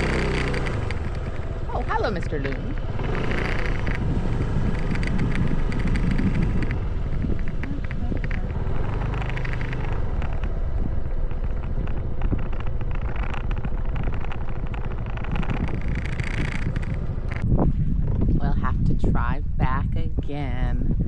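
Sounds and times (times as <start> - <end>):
scooter engine and tyres rumbling: 0.0 - 18.6
wind buffeting microphone: 0.0 - 21.0.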